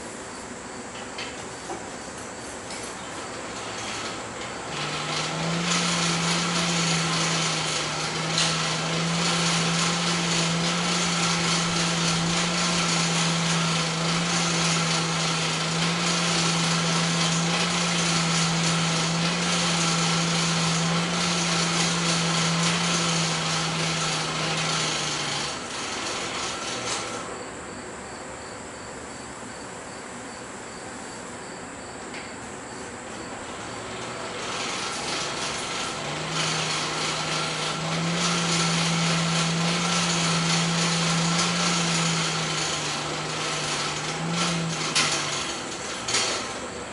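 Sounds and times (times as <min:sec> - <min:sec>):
power tool motor hum: 0:01.2 - 0:27.4, 0:33.0 - 0:46.9.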